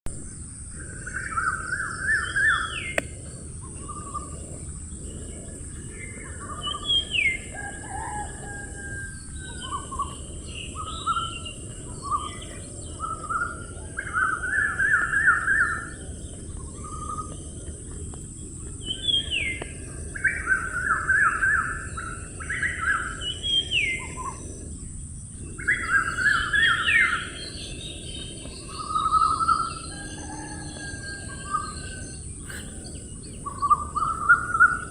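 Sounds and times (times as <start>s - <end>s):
low rumbling background: 0.1s - 34.9s
steady high hiss: 0.1s - 34.9s
wild birds calling: 0.4s - 34.9s.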